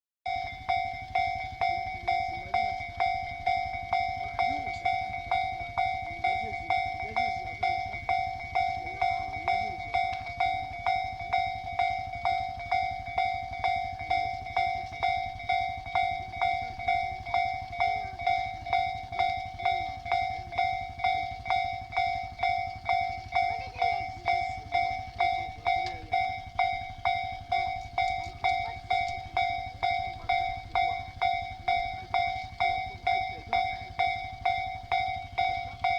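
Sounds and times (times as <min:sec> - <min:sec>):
level crossing warning bell: 0:00.3 - 0:35.9.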